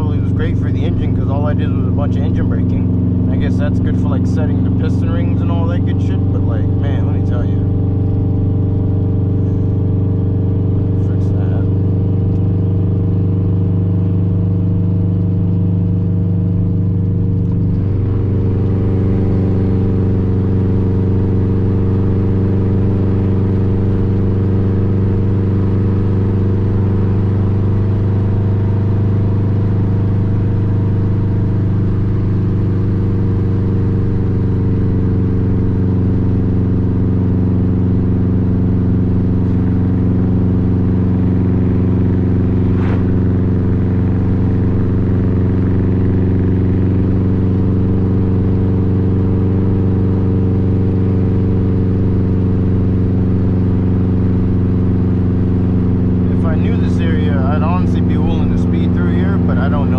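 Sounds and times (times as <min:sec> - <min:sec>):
loud car exhaust droning: 0:00.0 - 0:59.9.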